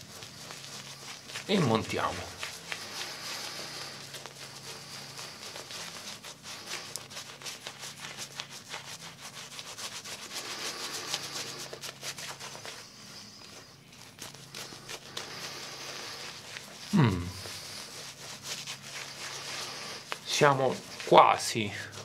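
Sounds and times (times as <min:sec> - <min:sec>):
shaving brush rubbing lather: 0:00.0 - 0:22.0.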